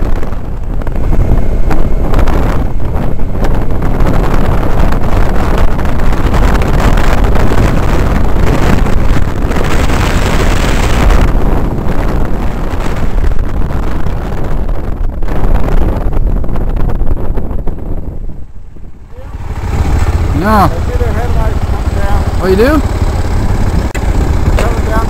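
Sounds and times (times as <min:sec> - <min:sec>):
motorcycle engine: 0:00.0 - 0:25.0
wind buffeting microphone: 0:00.0 - 0:25.0.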